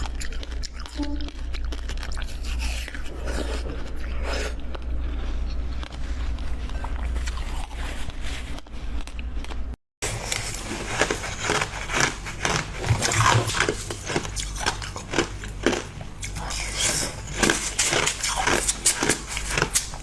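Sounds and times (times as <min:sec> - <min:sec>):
biting and chewing: 0:00.0 - 0:20.0.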